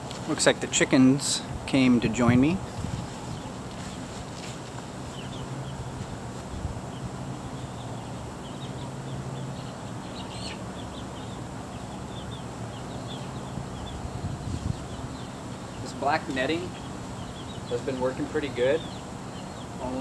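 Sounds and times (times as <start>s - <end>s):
steady low hum: 0.0s - 20.0s
chickens chirping: 0.3s - 20.0s.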